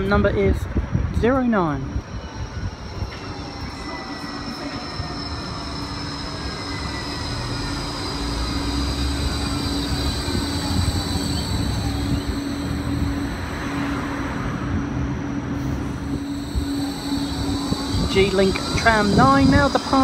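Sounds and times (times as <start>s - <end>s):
low hum and rumble: 0.0s - 20.0s
tram electric whine: 0.0s - 20.0s.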